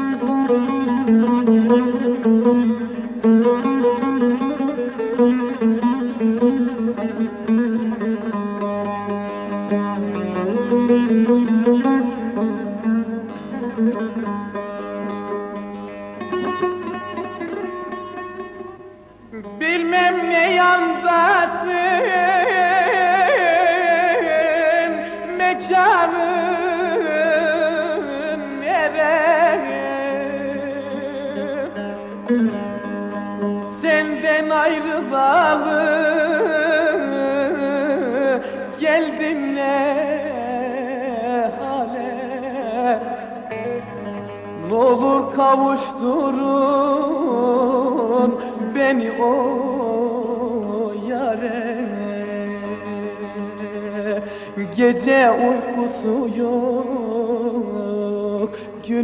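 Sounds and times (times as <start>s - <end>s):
string melody with vibrato: 0.0s - 59.0s.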